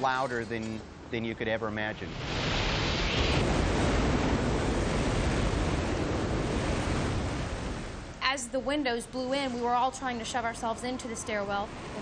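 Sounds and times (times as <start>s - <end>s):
roaring tornado wind: 1.7s - 12.0s.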